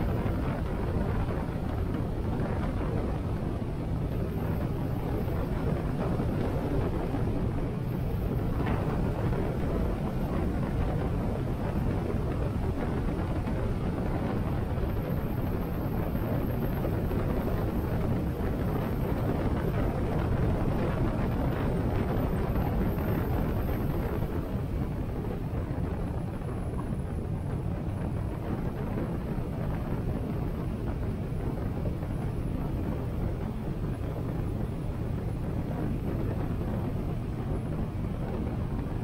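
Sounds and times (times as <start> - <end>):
wind rushing over camera: 0.0 - 39.0.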